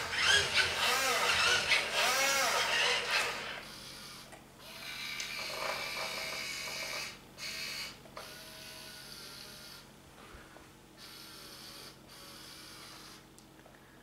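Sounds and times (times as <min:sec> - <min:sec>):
toy electric motor whirring: 0:00.0 - 0:09.9, 0:11.0 - 0:13.2.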